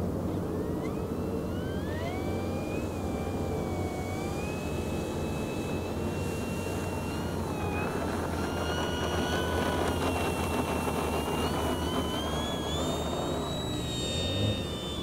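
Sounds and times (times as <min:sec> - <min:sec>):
electric model plane motor whining: 0:00.0 - 0:15.0.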